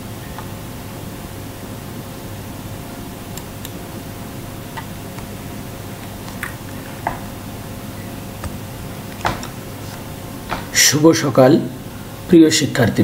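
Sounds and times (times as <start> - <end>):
background hiss: 0.0 - 13.0
faint hum: 0.0 - 13.0.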